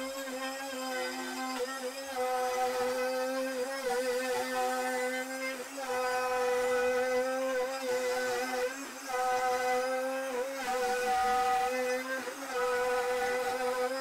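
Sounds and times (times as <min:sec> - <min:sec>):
router whining cutting wood: 0:00.0 - 0:14.0.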